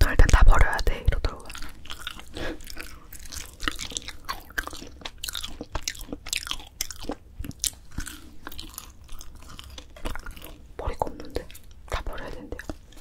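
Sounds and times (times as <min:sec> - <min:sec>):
crisp chewing crunches: 0:01.2 - 0:13.0.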